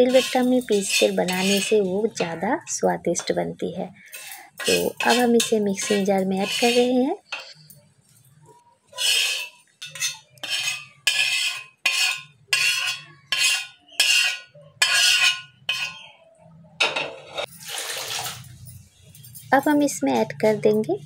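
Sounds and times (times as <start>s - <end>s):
metal spatula scraping: 0.0s - 2.6s, 4.0s - 18.6s.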